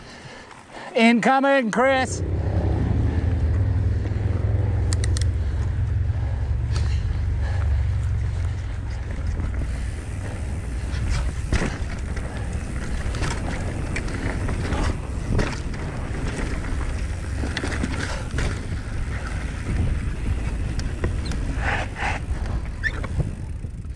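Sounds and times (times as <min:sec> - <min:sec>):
wind and tyres rumbling: 0:00.0 - 0:00.9, 0:01.7 - 0:23.9
bike rattling over bumps: 0:02.0 - 0:23.9.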